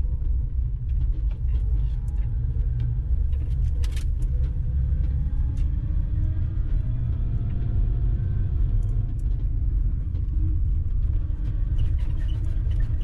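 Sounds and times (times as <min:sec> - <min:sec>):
vehicle wind and road rumble: 0:00.0 - 0:13.0.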